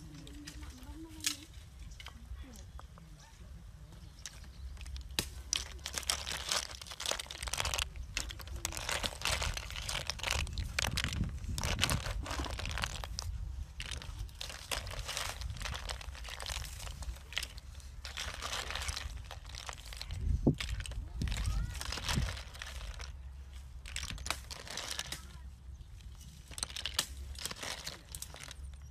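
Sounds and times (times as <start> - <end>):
crackling and rustling: 0.0 - 28.9
snail shells clicking and rattling: 4.1 - 25.2, 25.9 - 28.9.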